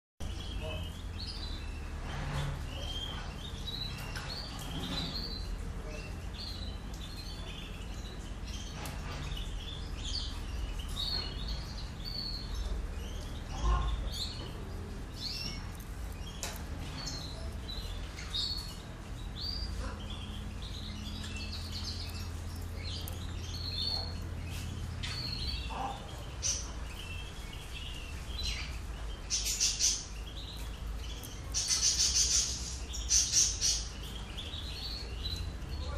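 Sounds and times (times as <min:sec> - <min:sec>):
goldfinch twittering song: 0:00.2 - 0:35.9.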